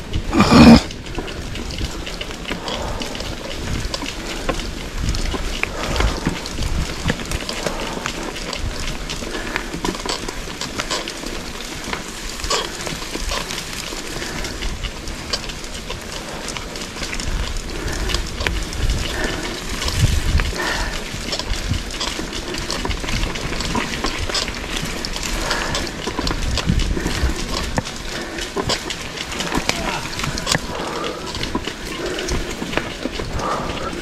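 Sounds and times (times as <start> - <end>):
gusty low rumble: 0.0 - 9.6, 13.7 - 34.0
bike clicks and rattles: 0.0 - 34.0
bike tyres on dirt: 0.0 - 34.0.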